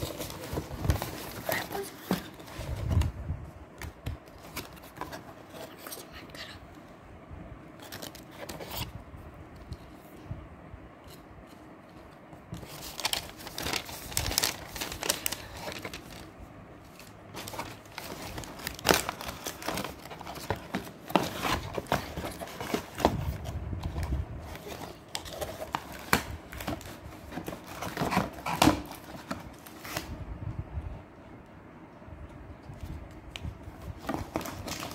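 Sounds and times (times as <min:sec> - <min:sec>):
paper and cardboard rustling: 0:00.0 - 0:03.2, 0:04.0 - 0:06.5, 0:07.8 - 0:09.0, 0:11.0 - 0:30.2, 0:32.7 - 0:34.9.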